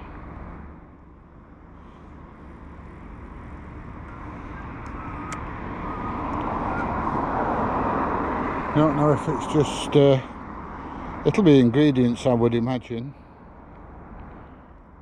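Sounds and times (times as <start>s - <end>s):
vehicle approaching: 0.0s - 15.0s.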